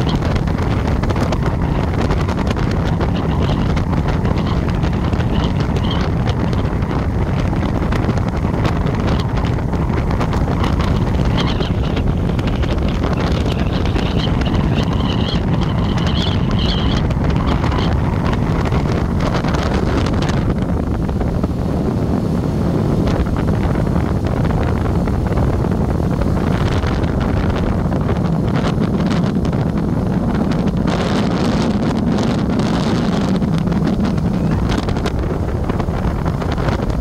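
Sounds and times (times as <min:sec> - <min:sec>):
road and engine rumble: 0:00.0 - 0:37.0
wind rushing over microphone: 0:00.0 - 0:37.0.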